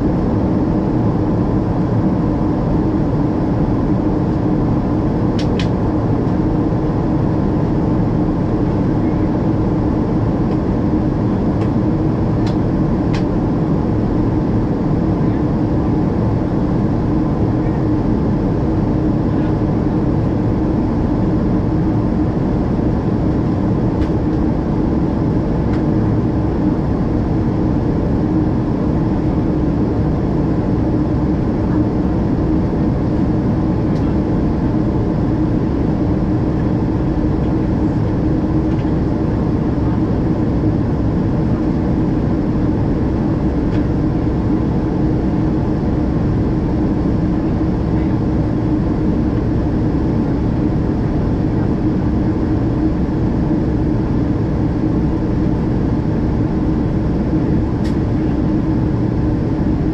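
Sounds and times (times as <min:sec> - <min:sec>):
air rushing along fuselage: 0:00.0 - 0:59.9
jet engines humming: 0:00.0 - 0:59.9.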